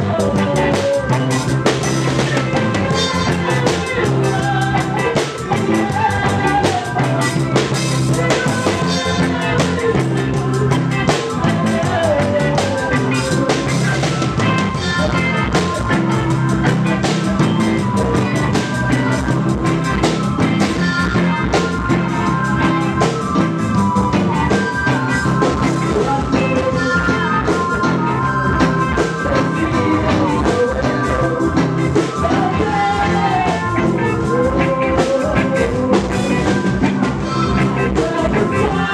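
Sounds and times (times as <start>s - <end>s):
bass line: 0.0s - 38.9s
drum kit rimshots: 0.0s - 38.9s
reggae band playing: 0.0s - 38.9s.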